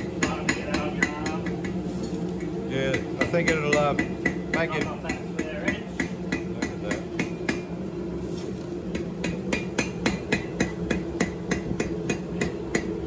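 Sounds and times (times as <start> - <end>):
hammer striking steel on anvil: 0.0 - 7.8, 8.8 - 13.0.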